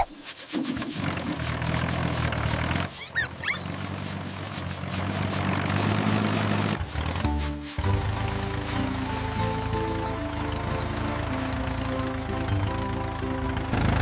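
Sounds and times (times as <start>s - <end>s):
low mechanical engine drone: 1.0s - 14.0s.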